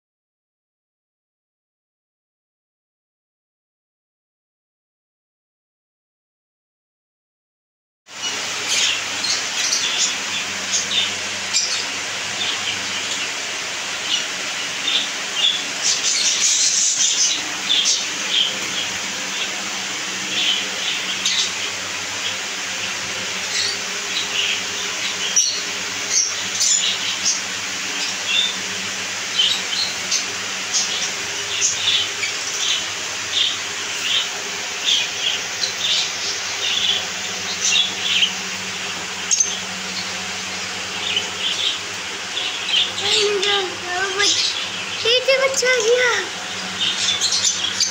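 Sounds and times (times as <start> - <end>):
parrots chirping: 8.1 - 47.9.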